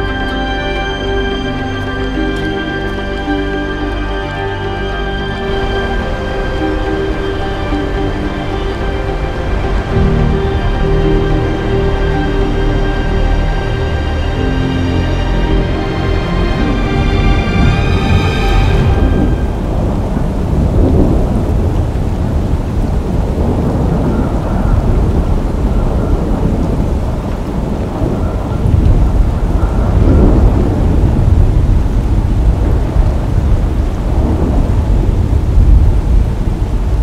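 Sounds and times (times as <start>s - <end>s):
deep continuous rumble: 0.0s - 37.0s.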